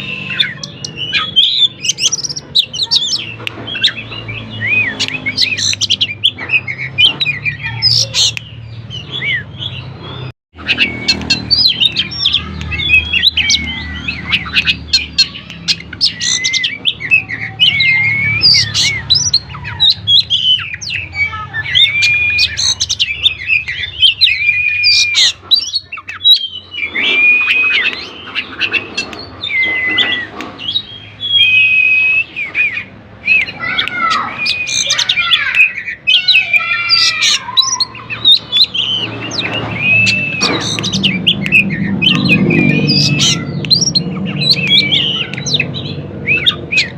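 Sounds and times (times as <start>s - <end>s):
songbird whistles and trills: 0.0s - 46.9s.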